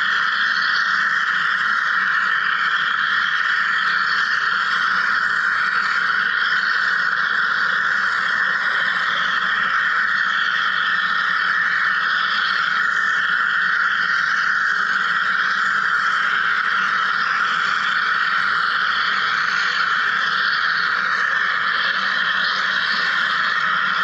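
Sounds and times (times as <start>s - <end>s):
wire cutting machine hissing: 2.4s - 24.0s.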